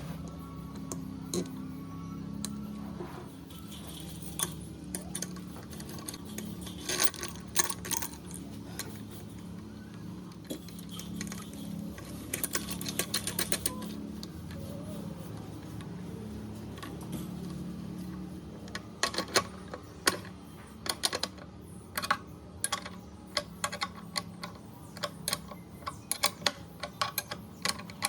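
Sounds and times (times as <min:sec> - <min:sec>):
small hardware clicking and rattling: 0:00.2 - 0:28.0.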